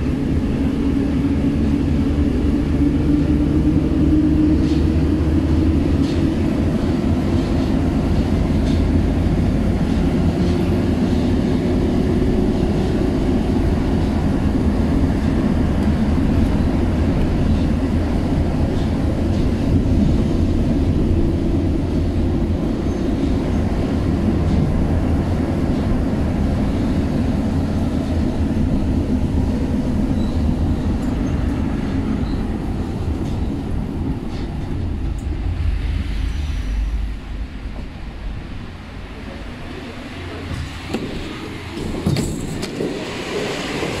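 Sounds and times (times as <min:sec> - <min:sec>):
train rumbling through tunnel: 0:00.0 - 0:44.0.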